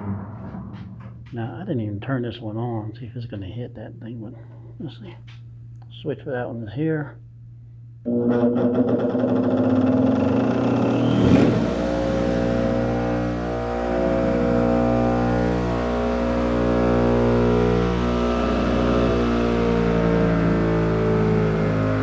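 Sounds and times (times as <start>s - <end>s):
deeper low hum: 0.0s - 8.2s, 9.1s - 22.0s.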